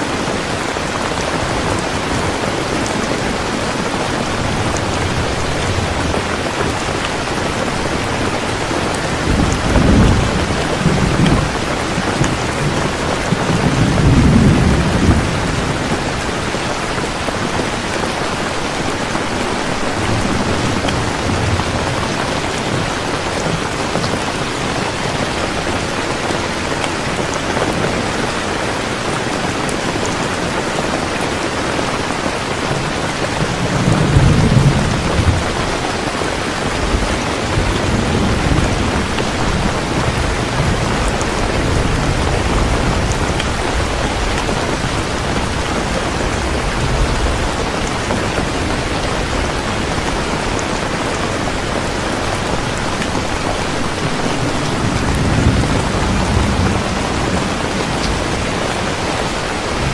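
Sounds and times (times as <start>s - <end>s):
thunder rumbling: 0.0s - 26.3s, 32.5s - 59.9s
heavy rain falling: 0.0s - 59.9s.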